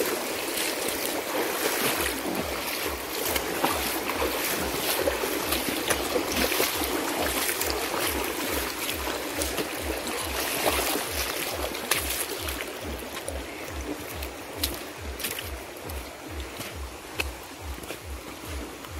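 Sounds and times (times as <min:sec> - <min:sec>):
feet splashing in water: 0:00.0 - 0:18.9
river rushing over rocks: 0:00.0 - 0:18.9.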